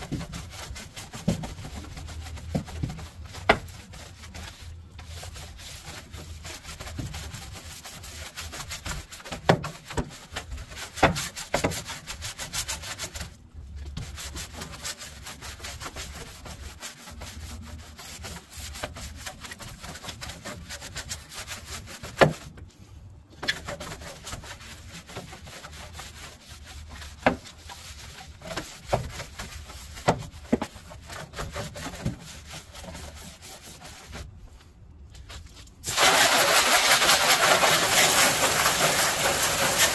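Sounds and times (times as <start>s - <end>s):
brush scrubbing metal: 0.0s - 22.6s, 23.4s - 39.9s.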